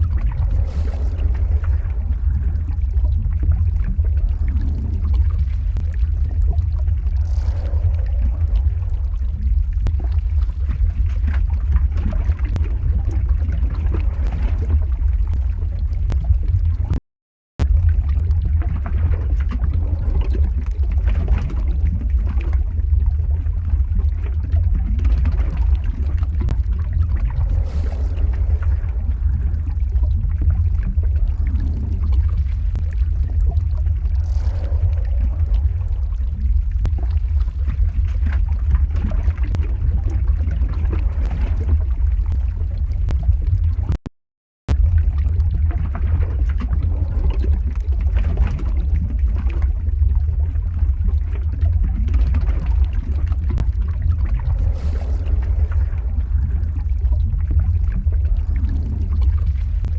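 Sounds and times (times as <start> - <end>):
lava crackles and pops: 0.0 - 17.0, 17.6 - 44.0, 44.6 - 59.9
lava deep rumble: 0.0 - 44.0, 44.6 - 59.9.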